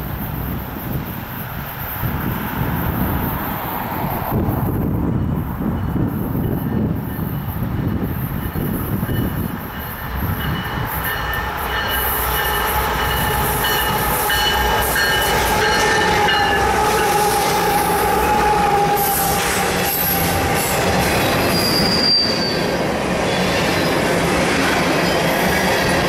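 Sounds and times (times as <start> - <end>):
train rumble: 0.0 - 26.0
wind noise: 0.0 - 26.0
high-pitched train squeal: 0.2 - 26.0.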